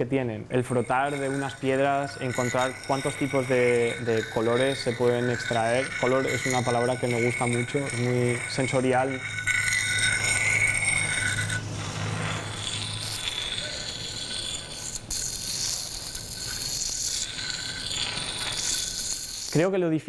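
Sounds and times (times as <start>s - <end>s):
stones scraping together: 0.4s - 19.6s
held ringing tone: 0.5s - 19.6s.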